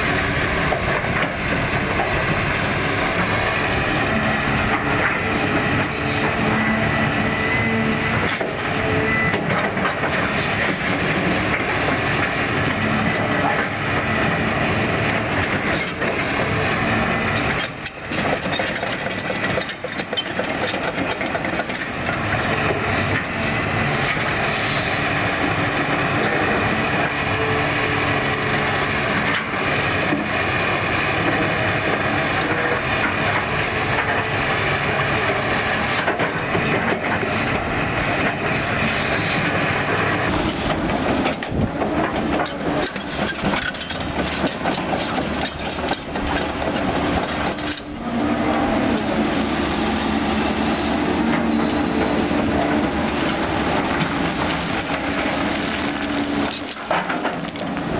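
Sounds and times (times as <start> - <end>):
excavator diesel engine under load: 0.0 - 57.9.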